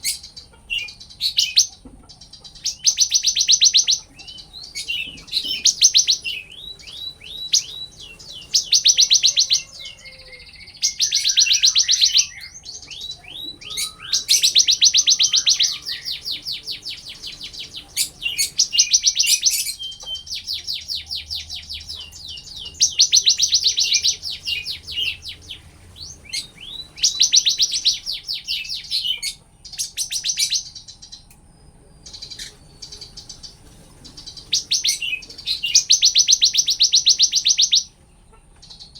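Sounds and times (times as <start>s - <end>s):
bird singing rapid high trills: 0.0s - 38.9s.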